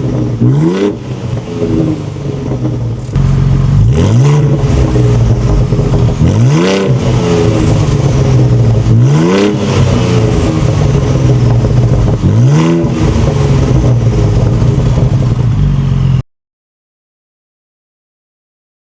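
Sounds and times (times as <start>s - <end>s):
engine idling and revving: 0.0s - 16.2s.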